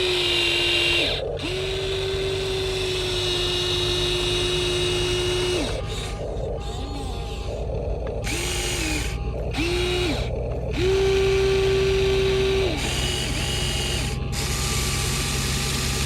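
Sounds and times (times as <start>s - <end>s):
low motor hum: 0.0s - 16.0s
toy electric motors whining: 0.0s - 16.0s.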